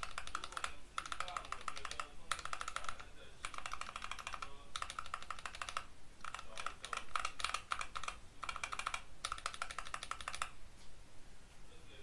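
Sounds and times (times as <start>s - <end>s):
typing on mechanical keyboard: 0.0s - 10.6s.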